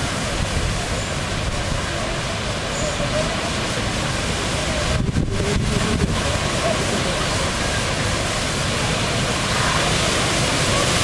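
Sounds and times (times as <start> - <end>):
wind buffeting microphone: 0.0 - 2.5, 4.2 - 11.0
storm wind through trees: 0.0 - 11.0.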